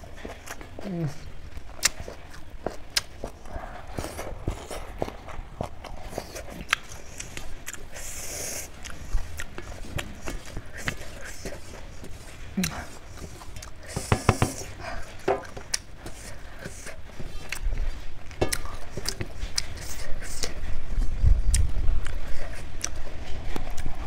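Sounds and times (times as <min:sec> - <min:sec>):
chewing with wet mouth clicks: 0:00.0 - 0:14.0, 0:15.0 - 0:24.0.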